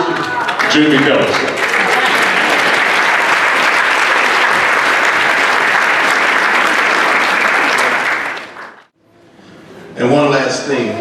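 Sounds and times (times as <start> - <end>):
congregation applauding: 0.0 - 8.9.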